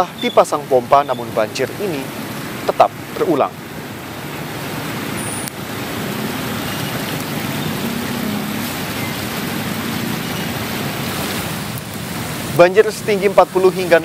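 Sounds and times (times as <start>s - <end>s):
tyres churning water: 0.0s - 14.0s
low engine hum: 1.1s - 14.0s.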